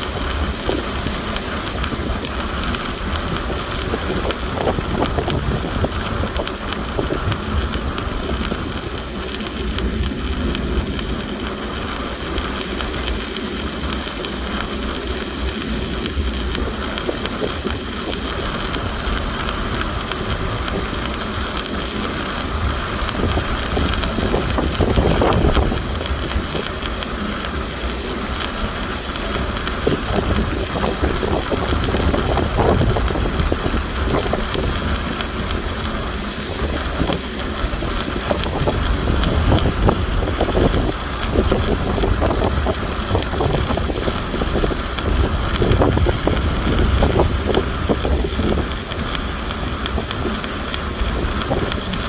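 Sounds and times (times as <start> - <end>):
welding arc crackling: 0.0 - 52.0.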